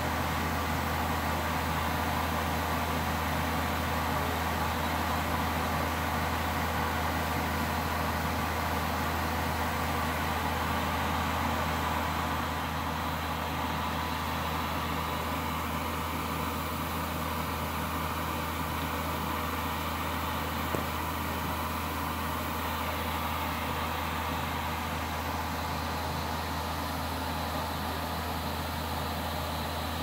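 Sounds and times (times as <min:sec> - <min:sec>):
electric train humming: 0:00.0 - 0:30.0.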